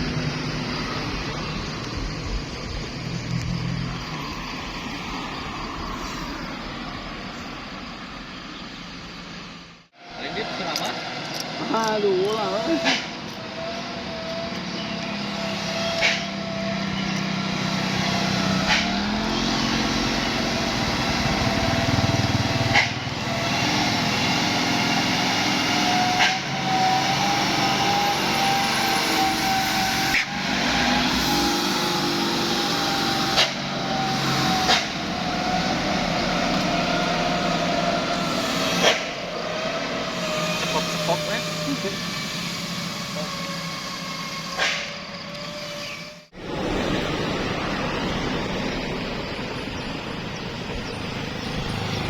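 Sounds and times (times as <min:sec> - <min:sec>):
heavy bus engine drone: 0:00.0 - 0:52.0.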